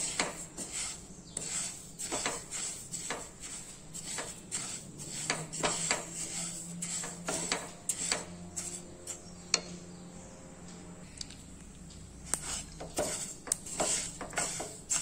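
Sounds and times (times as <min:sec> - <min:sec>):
wooden spatula scraping seeds in pan: 0:00.0 - 0:09.7, 0:12.2 - 0:15.0.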